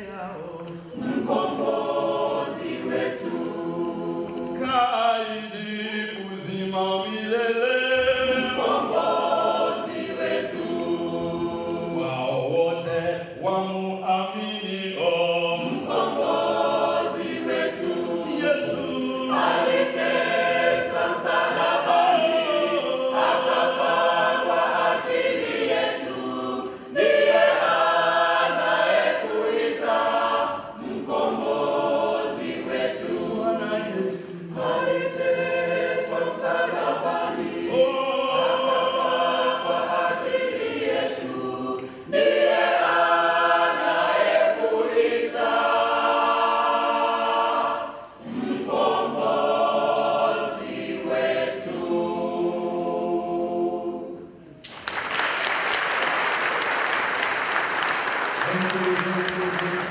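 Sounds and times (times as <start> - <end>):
mixed choir singing a hymn: 0.0 - 59.9.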